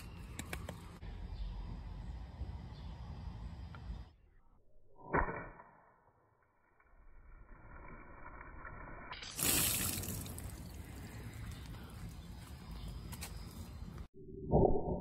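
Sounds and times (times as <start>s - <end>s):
outdoor background: 0.0s - 15.0s.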